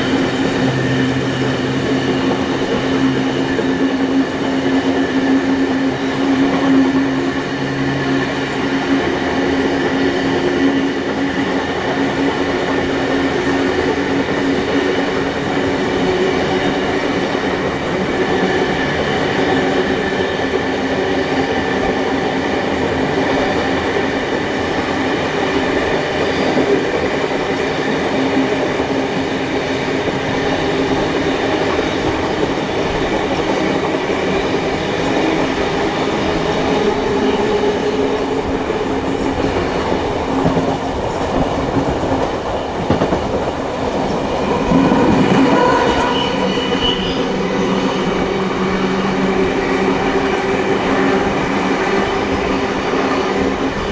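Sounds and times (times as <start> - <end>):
train rumble: 0.0 - 53.9
train wheels rolling on rails: 0.0 - 53.9.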